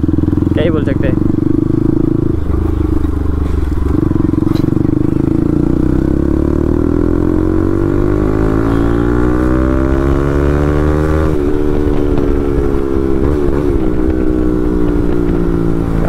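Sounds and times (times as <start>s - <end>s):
motorcycle accelerating: 0.0s - 16.0s.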